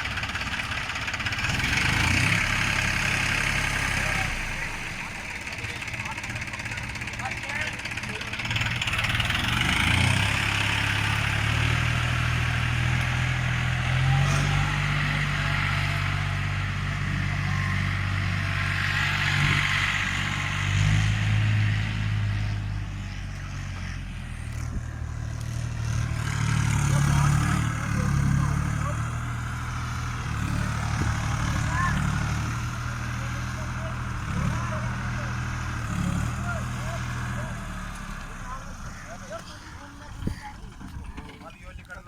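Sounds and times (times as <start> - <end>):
tractor engine revving: 0.0 - 42.0.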